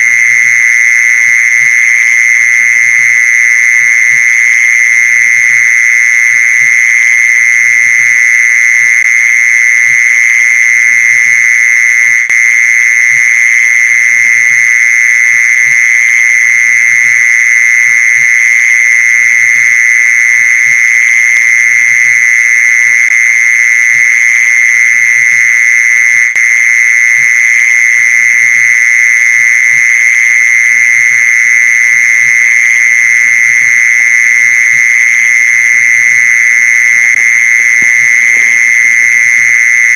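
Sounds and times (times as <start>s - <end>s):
mole cricket trilling: 0.0s - 39.9s.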